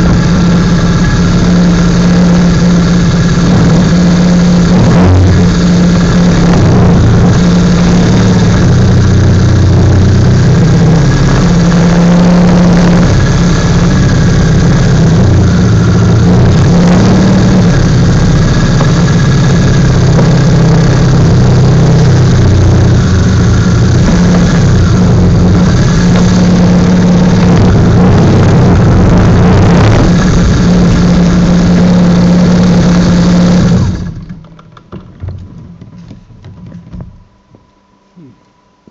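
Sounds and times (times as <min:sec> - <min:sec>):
motorcycle engine revving: 0:00.0 - 0:34.6.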